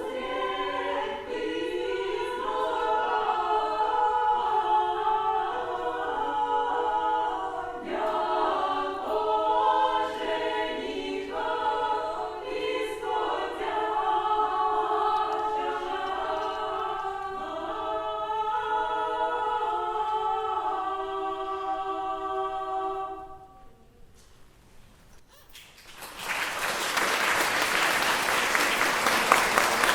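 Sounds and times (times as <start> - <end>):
unaccompanied choir singing: 0.0 - 23.9, 27.2 - 29.9.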